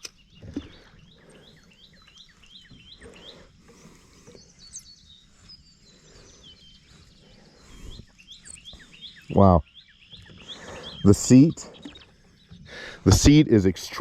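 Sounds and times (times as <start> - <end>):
small bird chirping: 0.0 - 13.6.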